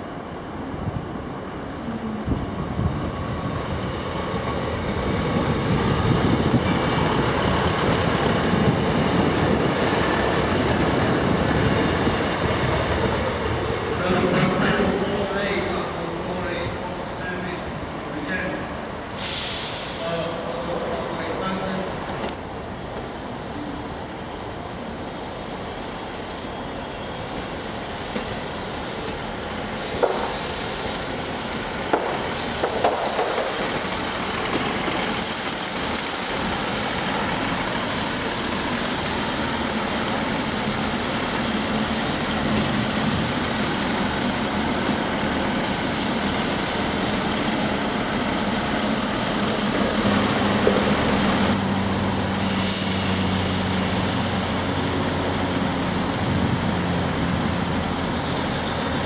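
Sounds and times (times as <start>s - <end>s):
diesel train engine running: 0.0s - 59.0s.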